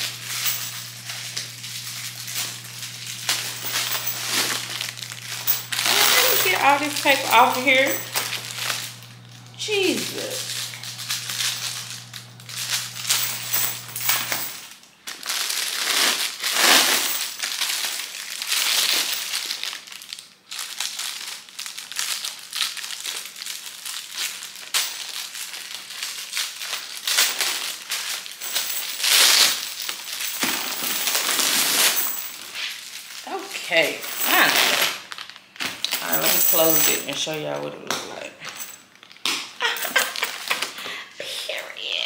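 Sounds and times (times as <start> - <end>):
plastic wrapping crinkling: 0.0 - 37.1, 38.5 - 40.8.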